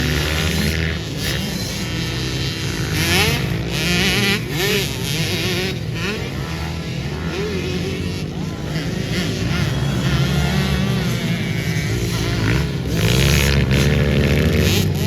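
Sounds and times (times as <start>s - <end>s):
pit bike engines racing: 0.0s - 15.0s.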